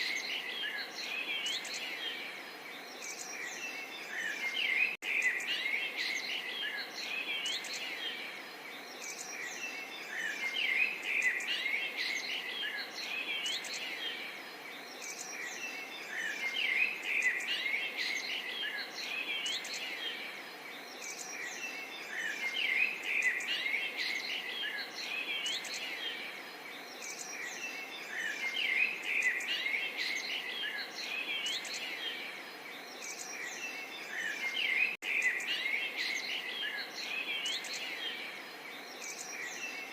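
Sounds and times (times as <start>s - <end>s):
small birds chirping: 0.0s - 39.9s
steady outdoor hiss: 0.0s - 39.9s.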